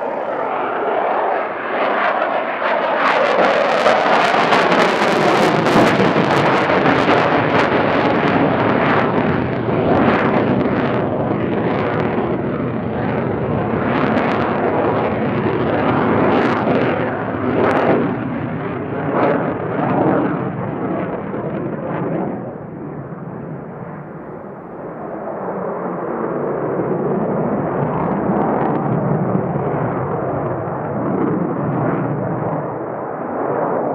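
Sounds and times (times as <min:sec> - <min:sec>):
jet engine rumble with crackles: 0:00.0 - 0:33.9.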